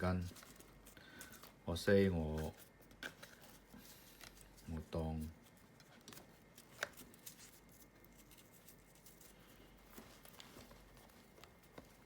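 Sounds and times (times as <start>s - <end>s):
faint handling noise: 0.0s - 12.0s.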